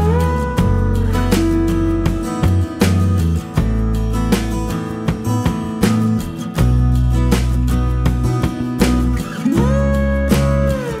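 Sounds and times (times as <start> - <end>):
guitar music with bass and beat: 0.0 - 11.0.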